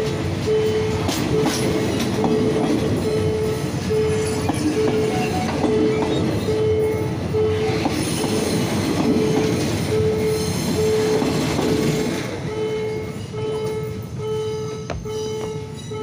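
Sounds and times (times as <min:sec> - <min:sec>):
level-crossing warning alarm: 0:00.0 - 0:16.0
train wheels rolling on rails: 0:00.0 - 0:16.0.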